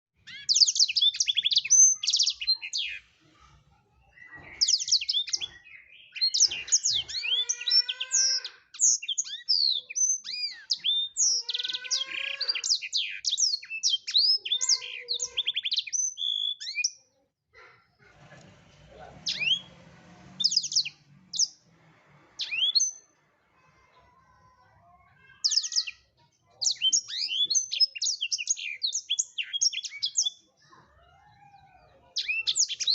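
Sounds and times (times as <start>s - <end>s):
canary singing: 0.2s - 17.2s, 19.0s - 32.9s.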